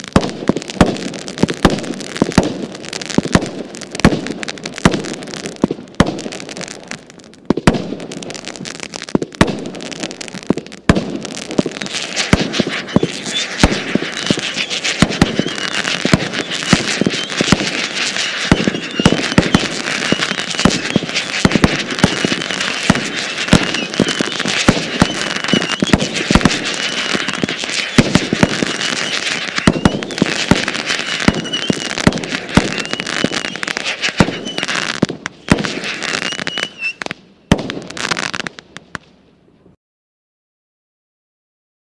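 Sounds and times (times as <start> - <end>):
fireworks shots and crackle: 0.0 - 39.4.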